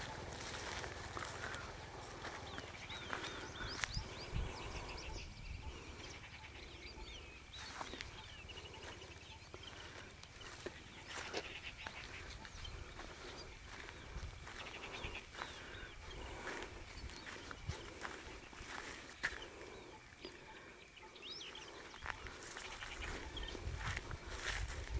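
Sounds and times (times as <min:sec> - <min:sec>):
birds chirping and trilling: 0:00.0 - 0:24.9.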